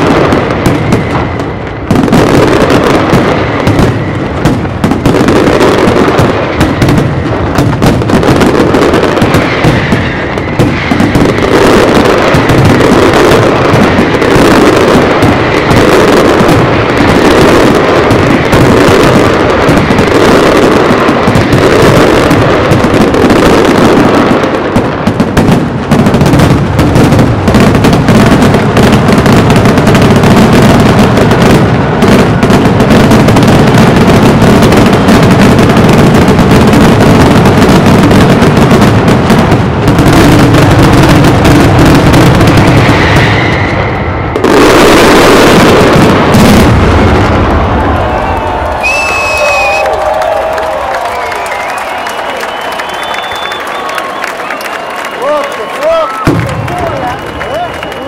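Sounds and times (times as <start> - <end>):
fireworks bursts and crackle: 0.0 - 58.0.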